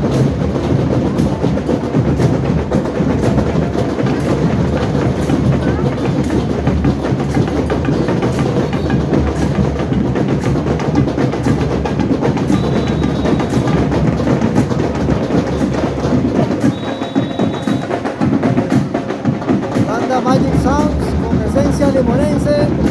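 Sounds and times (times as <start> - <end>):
deep drums: 0.0 - 22.9
sharp clicking percussion: 0.0 - 22.9.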